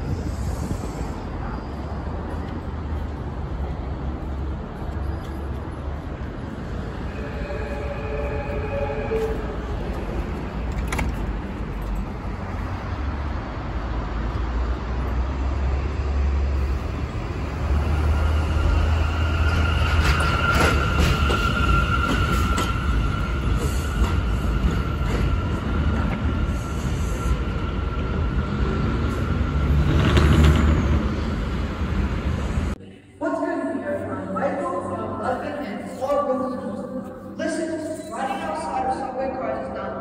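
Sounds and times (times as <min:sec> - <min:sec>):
subway train rumbling: 0:00.0 - 0:40.0.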